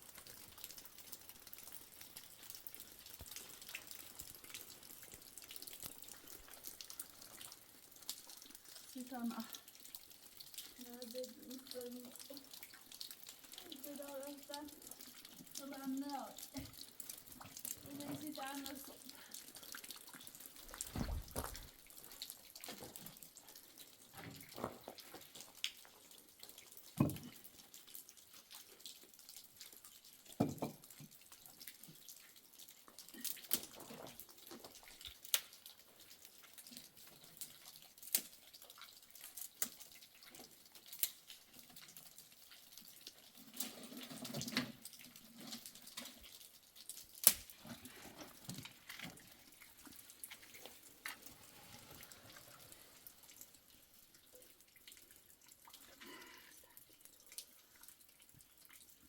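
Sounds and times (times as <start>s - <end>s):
water splashing and dripping: 0.0s - 59.0s.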